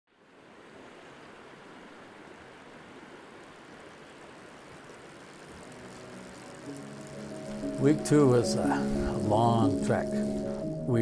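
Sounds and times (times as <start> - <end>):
river water rushing: 0.1 - 11.0.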